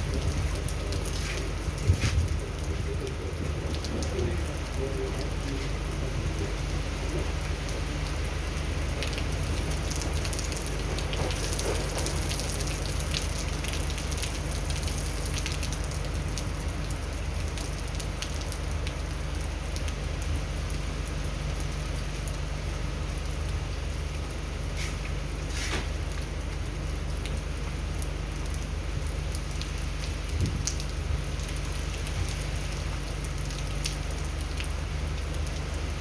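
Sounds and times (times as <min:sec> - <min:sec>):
low wind rumble: 0:00.0 - 0:36.0
rain pattering: 0:00.0 - 0:36.0.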